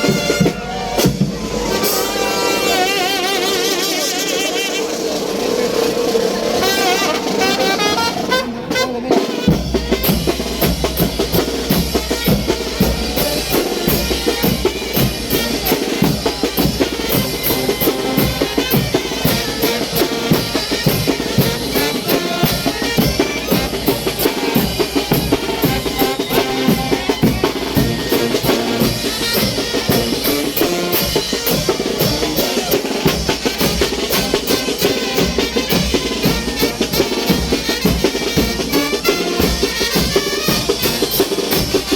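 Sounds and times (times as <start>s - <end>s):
fast drum and cymbal beat: 0.0s - 41.9s
wind band playing dance music: 0.0s - 41.9s.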